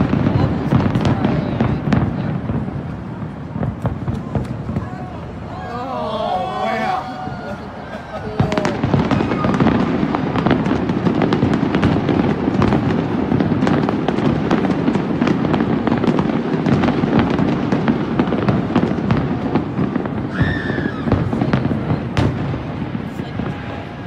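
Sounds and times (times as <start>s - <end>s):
fireworks booms and cracks: 0.0s - 24.0s.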